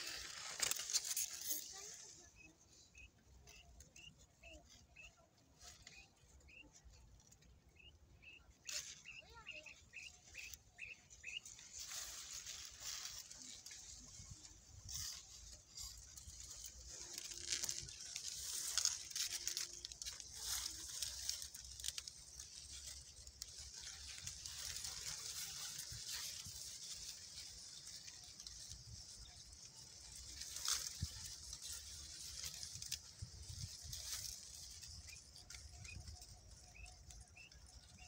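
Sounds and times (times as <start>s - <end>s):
dry leaves rustling: 0.0s - 38.0s.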